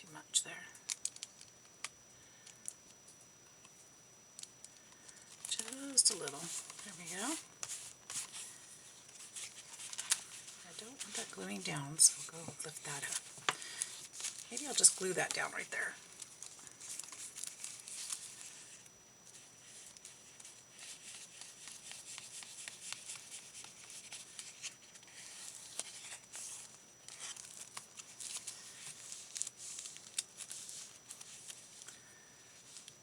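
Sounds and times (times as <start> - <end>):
paper rustling and crinkling: 4.4 - 33.0.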